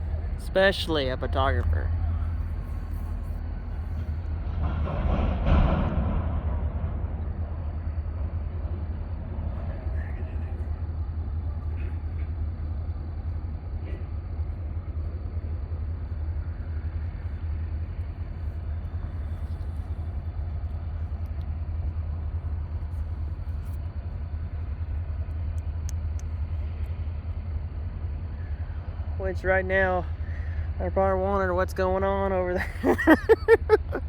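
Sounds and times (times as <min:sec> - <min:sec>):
diesel locomotive idling: 0:00.0 - 0:34.0.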